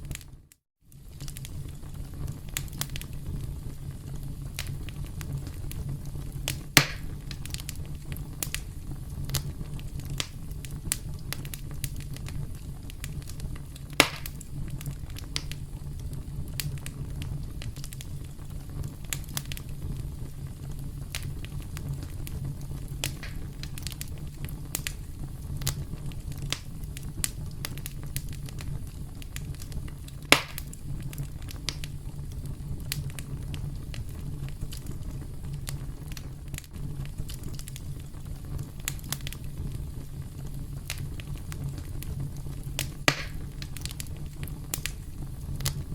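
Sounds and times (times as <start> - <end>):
burning wood popping: 0.0 - 45.9
campfire flames crackling: 0.0 - 45.9.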